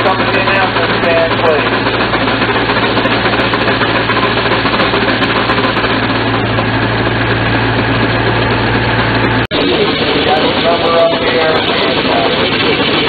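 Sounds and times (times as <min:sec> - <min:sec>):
engine running with clatter: 0:00.0 - 0:13.0.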